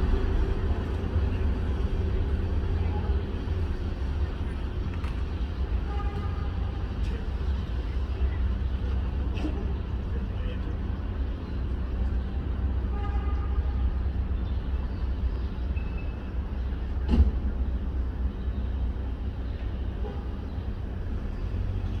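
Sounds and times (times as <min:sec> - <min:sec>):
passing traffic rumble: 0:00.0 - 0:22.0.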